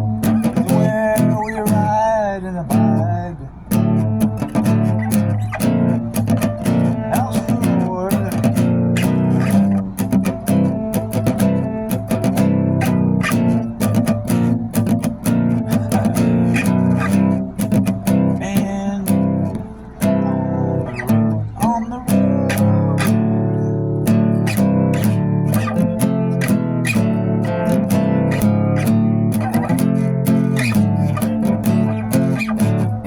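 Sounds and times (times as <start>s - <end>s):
band music with acoustic guitar: 0.0s - 33.0s.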